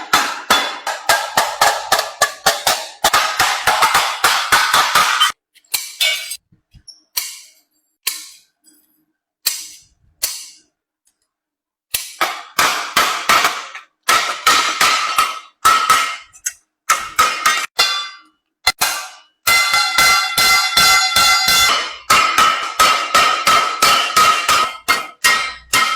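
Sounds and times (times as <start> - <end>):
hammer striking sheet metal: 0.0 - 6.4, 7.2 - 8.5, 9.4 - 10.7, 11.9 - 25.9.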